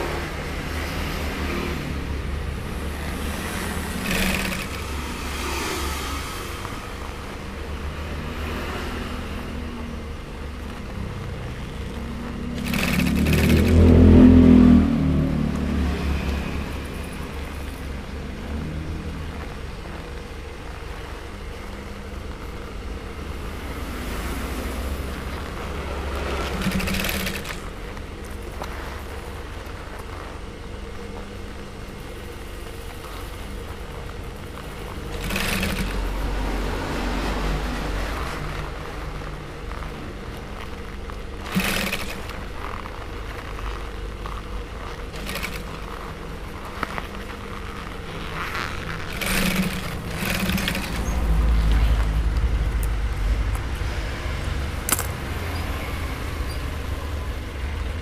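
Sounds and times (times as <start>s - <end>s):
industrial sewing machine humming: 0.0s - 53.3s.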